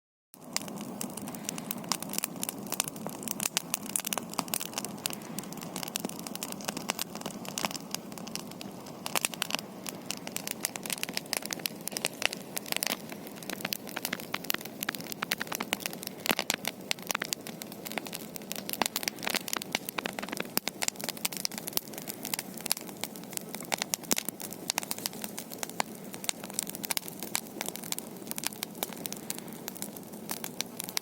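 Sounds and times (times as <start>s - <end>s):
campfire crackling: 0.4s - 31.0s
low rush of flame: 0.4s - 31.0s.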